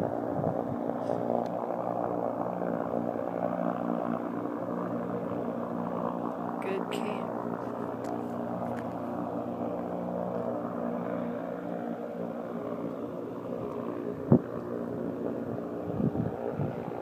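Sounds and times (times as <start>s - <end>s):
blimp propeller engines droning: 0.0s - 17.0s.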